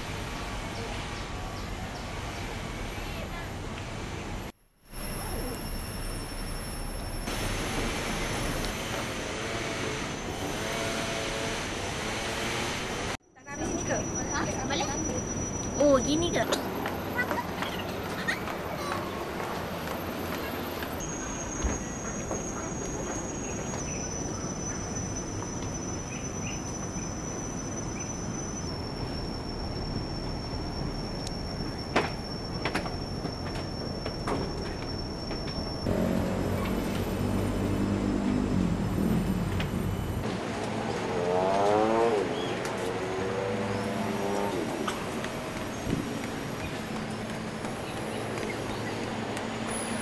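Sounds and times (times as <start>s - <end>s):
insects droning: 0.0s - 40.3s, 40.9s - 50.0s
outdoor background noise: 0.0s - 50.0s
rushing background noise: 0.0s - 50.0s.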